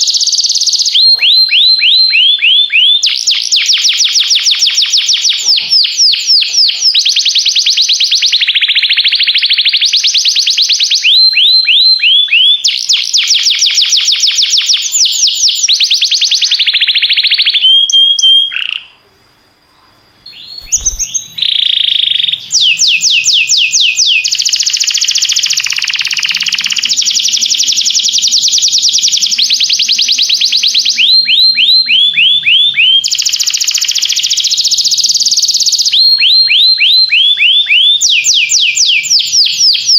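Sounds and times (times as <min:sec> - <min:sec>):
canary singing trills: 0:00.0 - 0:19.2, 0:19.8 - 0:39.9.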